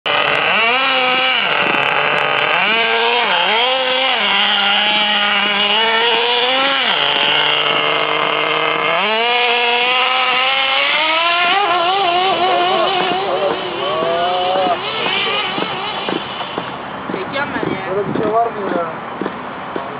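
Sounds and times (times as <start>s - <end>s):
small engine revving: 0.0s - 19.9s.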